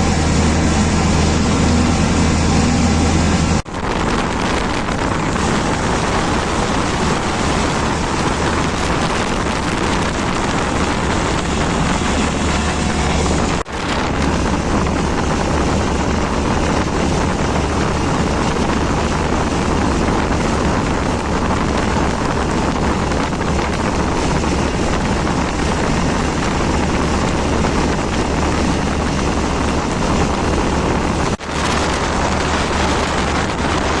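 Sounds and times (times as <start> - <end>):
low engine-like drone: 0.0 - 34.0
wind noise on microphone: 0.0 - 34.0.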